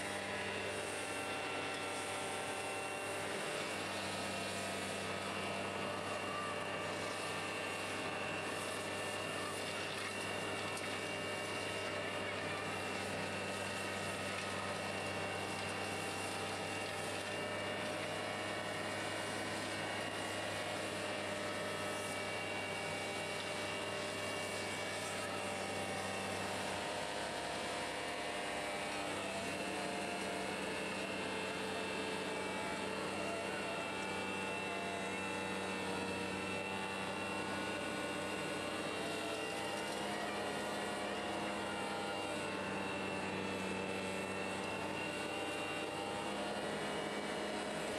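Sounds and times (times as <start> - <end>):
constant high whine: 0.0 - 47.9
vacuum truck mechanical drone: 0.0 - 47.9.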